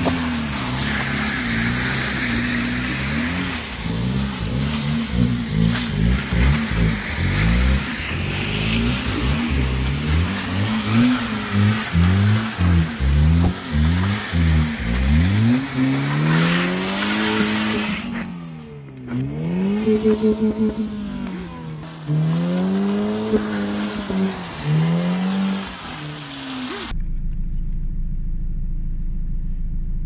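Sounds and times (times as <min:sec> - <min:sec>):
tyres hissing on snow: 0:00.0 - 0:20.5, 0:21.2 - 0:26.9
car engine revving: 0:00.0 - 0:27.3.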